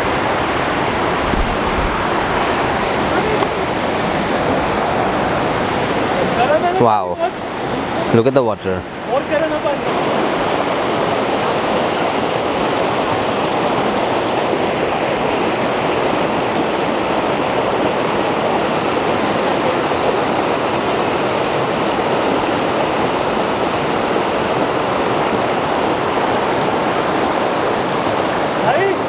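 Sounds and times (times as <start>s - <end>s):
stream rushing over stones: 0.0s - 29.0s.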